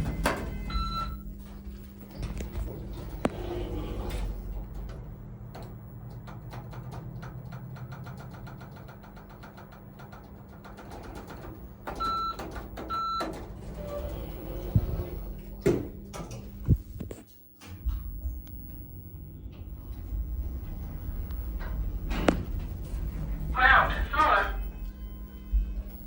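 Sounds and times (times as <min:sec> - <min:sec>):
lift hum: 0:00.0 - 0:26.0.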